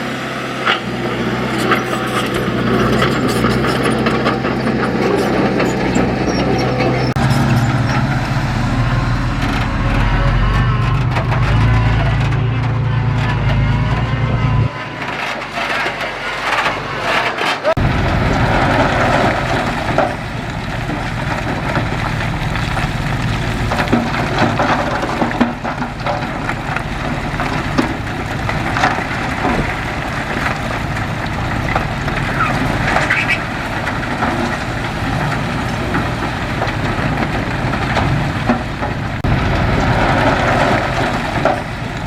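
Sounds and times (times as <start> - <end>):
diesel machinery running: 0.0 - 42.0.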